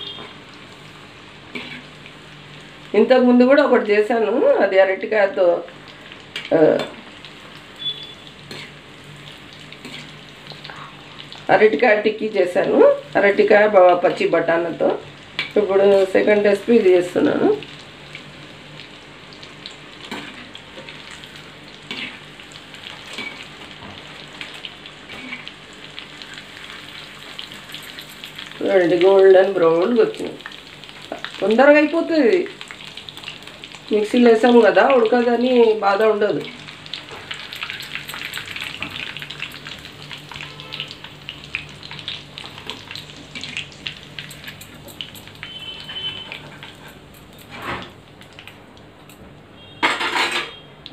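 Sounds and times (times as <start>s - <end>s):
food sizzling in hot oil: 0.0s - 50.9s.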